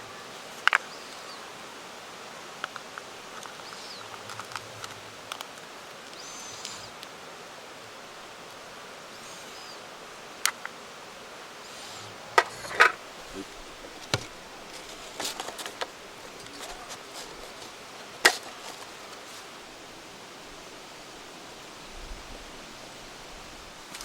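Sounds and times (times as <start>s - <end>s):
outdoor hiss: 0.0s - 24.0s.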